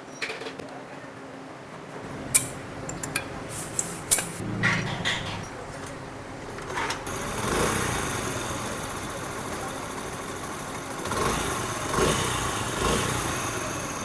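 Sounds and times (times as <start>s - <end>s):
internal engine noise: 2.0s - 14.0s
motorcycle engine starting and idling: 2.0s - 14.0s.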